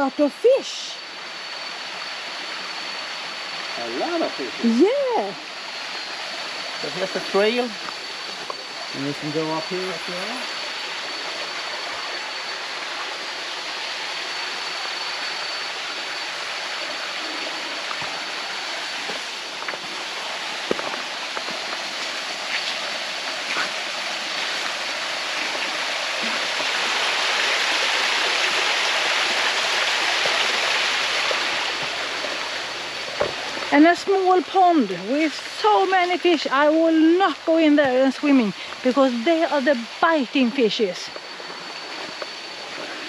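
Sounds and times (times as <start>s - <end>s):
waterfall and stream rushing: 5.4s - 43.0s.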